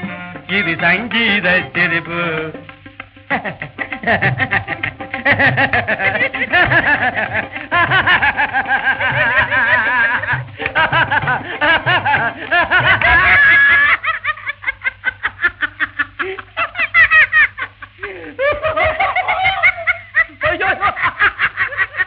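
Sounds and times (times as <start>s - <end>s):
man laughing melodically: 0.0s - 22.0s.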